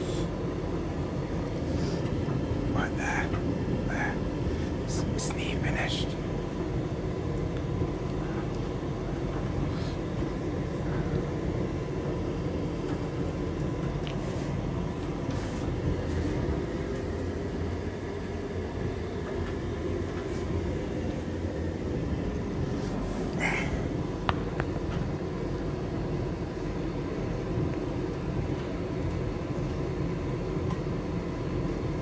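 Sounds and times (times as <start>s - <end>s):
faint constant hum: 0.0s - 32.0s
tumble dryer rumbling: 0.0s - 32.0s.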